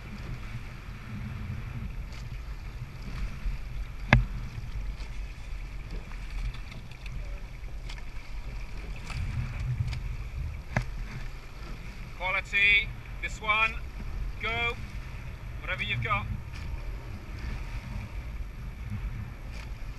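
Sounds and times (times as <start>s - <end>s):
water washing along a hull: 0.0s - 19.9s
wind buffeting the microphone: 0.0s - 19.9s.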